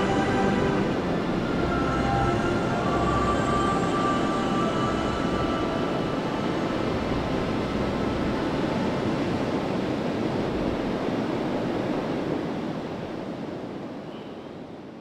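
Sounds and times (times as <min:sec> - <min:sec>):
ocean surf rushing onto beach: 0:00.0 - 0:14.1.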